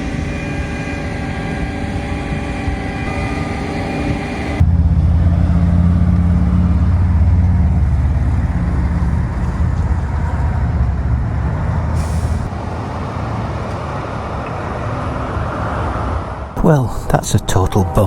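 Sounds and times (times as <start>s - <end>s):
vehicle engine humming: 0.0s - 15.9s
traffic noise: 0.0s - 18.0s.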